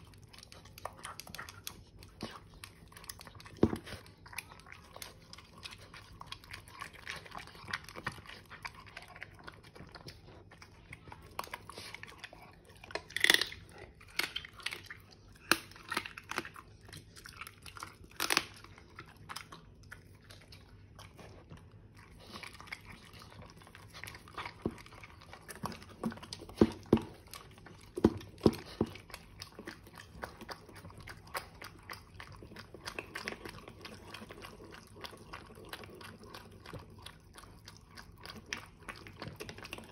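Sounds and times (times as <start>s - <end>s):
dog chewing and licking: 0.0s - 39.9s.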